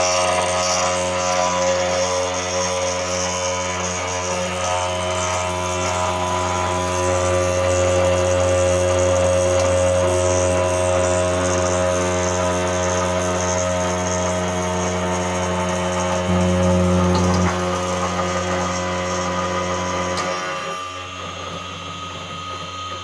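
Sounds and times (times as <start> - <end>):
whining motor tones: 0.0 - 23.0
machine motor hum: 0.2 - 23.0.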